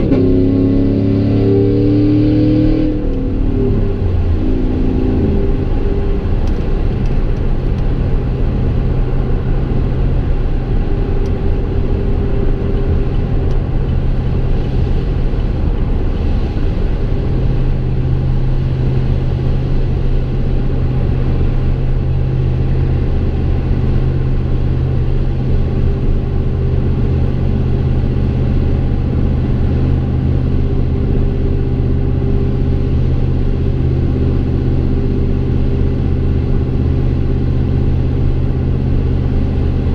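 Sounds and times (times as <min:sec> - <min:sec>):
truck engine drone from inside cab: 0:00.0 - 0:39.9.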